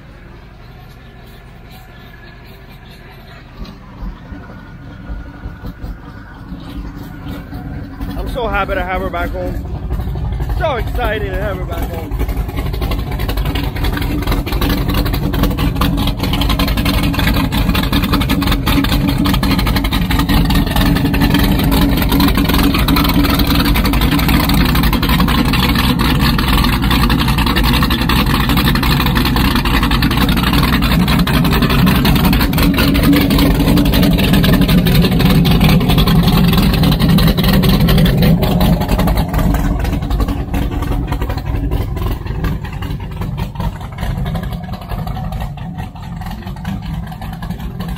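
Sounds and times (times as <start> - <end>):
powerboat engines rumbling: 0.0 - 47.9.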